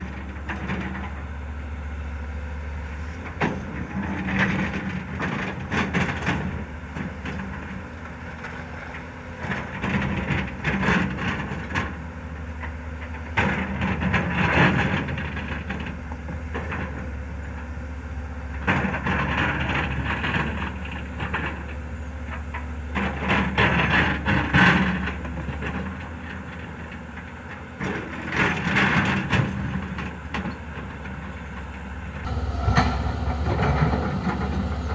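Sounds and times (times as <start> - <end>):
excavator diesel engine running: 0.0 - 34.9
excavator digging noise: 0.0 - 34.9.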